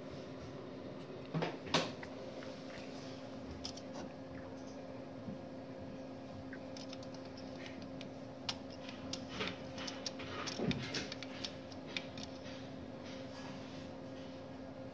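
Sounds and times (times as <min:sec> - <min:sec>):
machine humming: 0:00.0 - 0:13.3.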